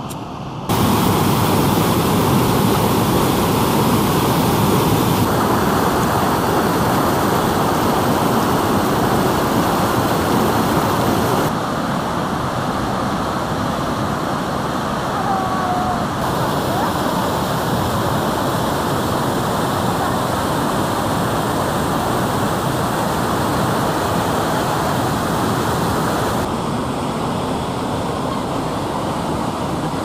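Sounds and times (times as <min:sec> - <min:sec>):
stream churning over rocks: 0:00.7 - 0:30.0
waterfall roaring: 0:00.7 - 0:30.0.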